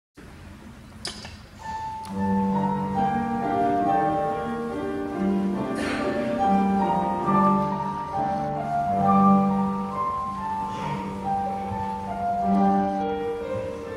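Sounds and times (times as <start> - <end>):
soft piano chords: 1.5 - 13.9.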